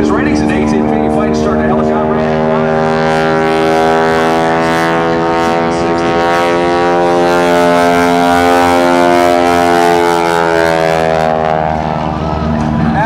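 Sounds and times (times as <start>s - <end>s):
radial engine and propeller drone: 0.0s - 13.0s.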